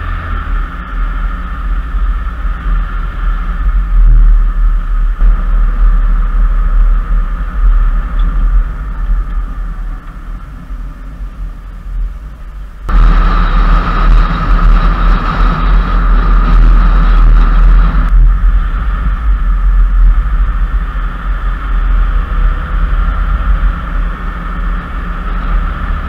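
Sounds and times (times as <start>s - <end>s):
road and engine rumble: 0.0s - 26.0s
wind and tyre hiss: 0.0s - 26.0s.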